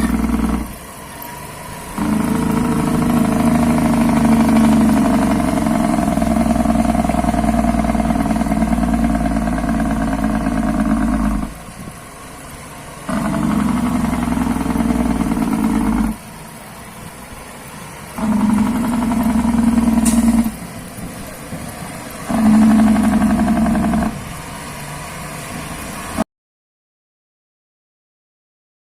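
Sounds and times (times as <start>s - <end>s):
truck diesel engine revving: 0.0s - 26.2s.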